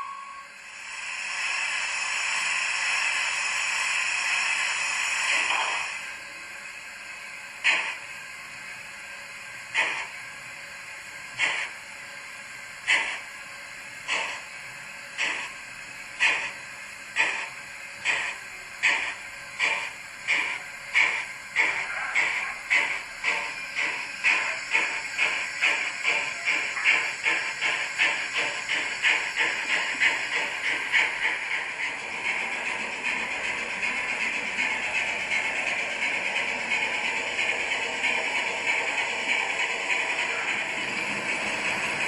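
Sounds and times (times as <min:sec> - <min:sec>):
steam hissing: 0:00.0 - 0:42.0
steam locomotive exhaust chuffs: 0:00.0 - 0:42.0.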